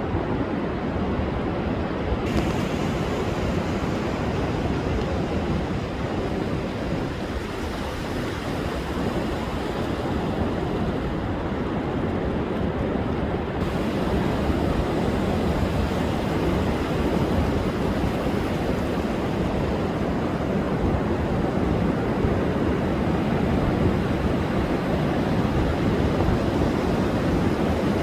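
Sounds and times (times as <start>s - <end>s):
wind: 0.0s - 28.0s
surf breaking on beach: 2.1s - 28.0s.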